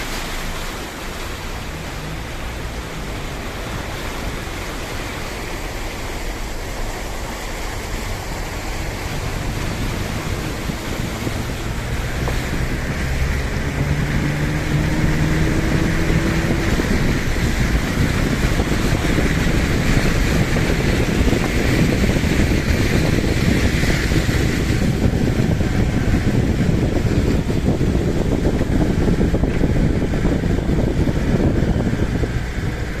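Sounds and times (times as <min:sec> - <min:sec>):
floodwater rushing: 0:00.0 - 0:33.0.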